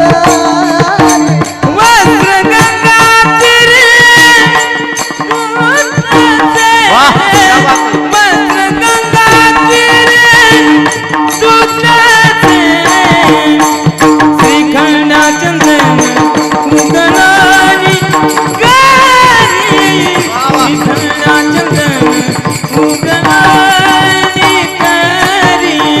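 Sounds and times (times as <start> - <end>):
percussion: 0.0 - 26.0
solo voice singing devotional song: 0.0 - 26.0.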